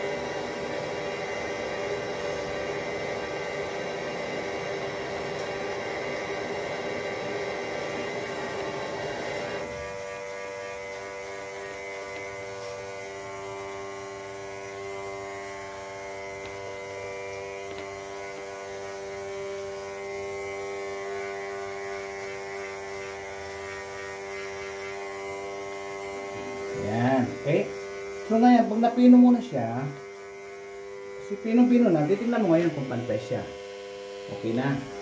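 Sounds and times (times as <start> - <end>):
electric hair clipper buzzing: 0.0 - 35.0.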